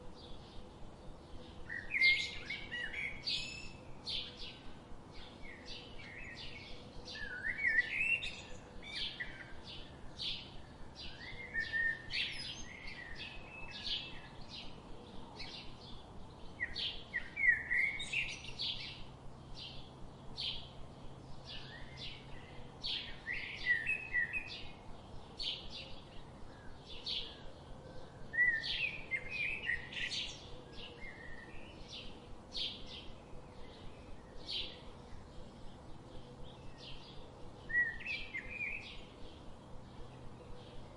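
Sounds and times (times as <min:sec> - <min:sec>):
songbirds chirping: 0:00.0 - 0:40.9
warbling birdsong: 0:00.0 - 0:40.9.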